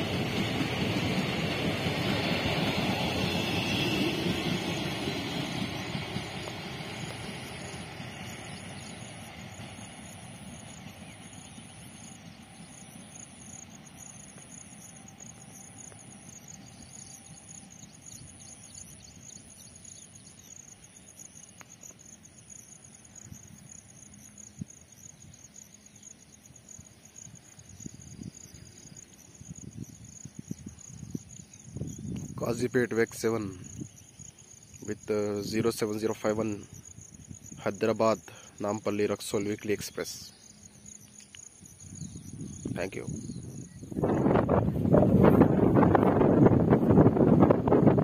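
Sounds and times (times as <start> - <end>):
insects chirping: 0.0 - 48.0
train rumble: 0.0 - 48.0.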